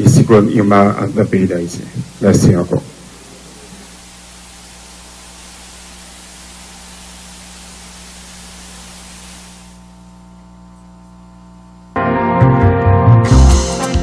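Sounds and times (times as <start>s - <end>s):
electrical hiss: 0.0s - 12.0s
low even hum: 0.0s - 12.0s.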